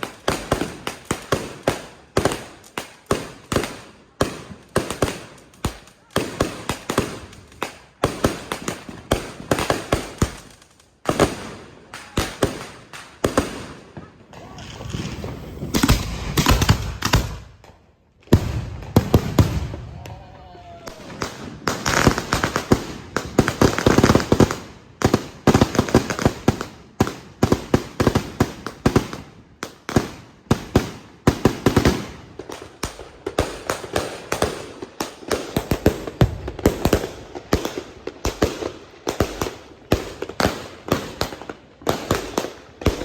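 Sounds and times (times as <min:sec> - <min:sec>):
fireworks cracking and banging: 0:00.0 - 0:43.0.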